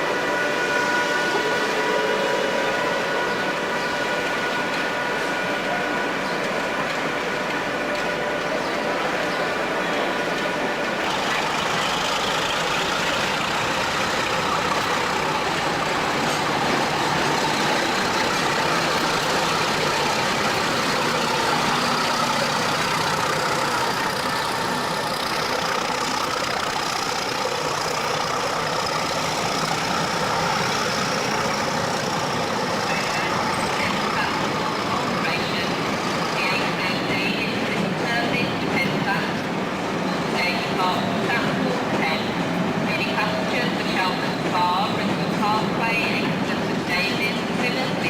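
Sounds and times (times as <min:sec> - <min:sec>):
diesel locomotive engine running: 0:00.0 - 0:48.0.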